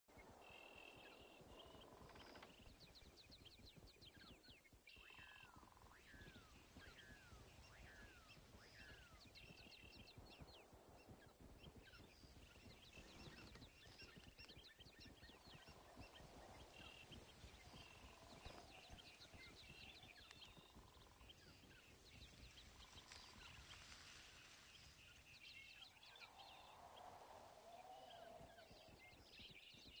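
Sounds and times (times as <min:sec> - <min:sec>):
faint birdsong: 0:00.1 - 0:30.0.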